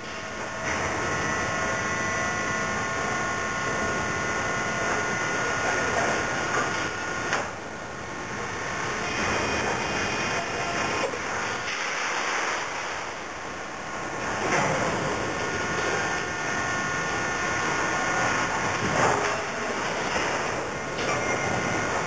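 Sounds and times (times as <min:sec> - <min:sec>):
machinery rumble and clatter: 0:00.0 - 0:22.0.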